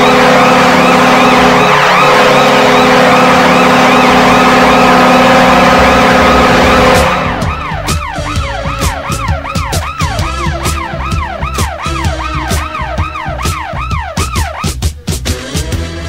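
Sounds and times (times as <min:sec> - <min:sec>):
goal horn blast: 0:00.0 - 0:14.8
siren wailing: 0:00.0 - 0:14.8.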